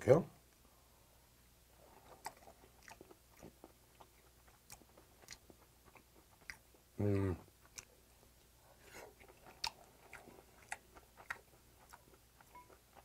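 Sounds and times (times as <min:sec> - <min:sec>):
person chewing: 0:01.8 - 0:08.0, 0:08.6 - 0:13.0.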